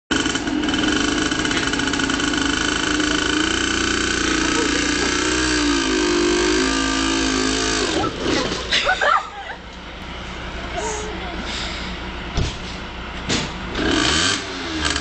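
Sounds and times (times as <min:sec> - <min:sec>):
motorcycle engine running: 0:00.1 - 0:11.5, 0:13.5 - 0:15.0.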